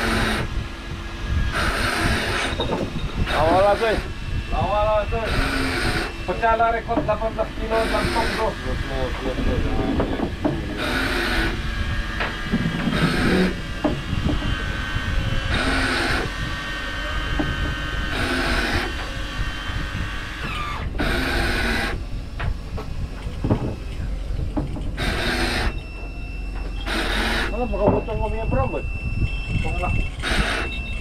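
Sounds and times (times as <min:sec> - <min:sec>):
boat engine rumble: 0:00.0 - 0:31.0.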